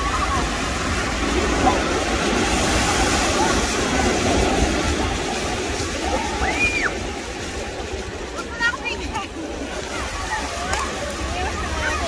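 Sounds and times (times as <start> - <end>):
small waves breaking: 0.0 - 12.0.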